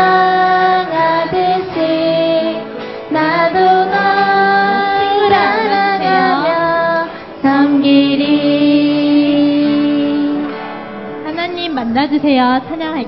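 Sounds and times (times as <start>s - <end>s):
children and woman singing: 0.0s - 10.5s
musical accompaniment: 0.0s - 13.0s.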